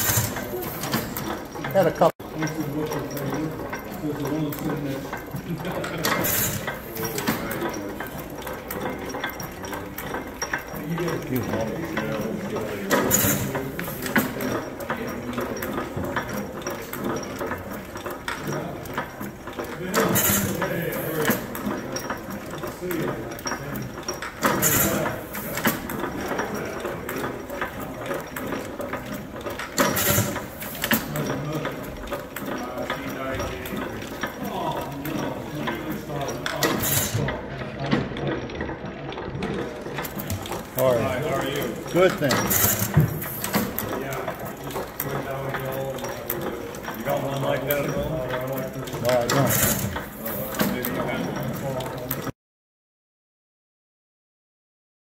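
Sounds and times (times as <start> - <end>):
stationary gas engine clattering: 0.0 - 52.3.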